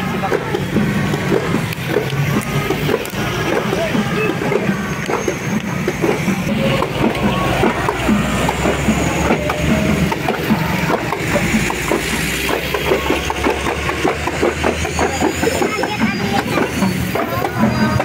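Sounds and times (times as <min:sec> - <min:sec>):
hand drums beating: 0:00.0 - 0:18.0
vehicle engine humming: 0:00.0 - 0:18.0.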